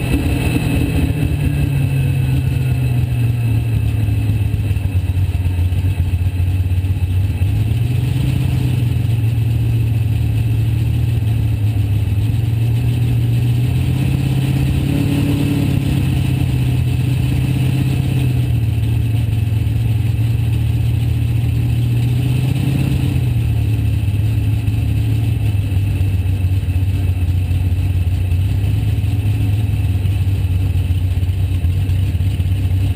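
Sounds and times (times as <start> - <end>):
race car engine running hard: 0.0 - 32.9.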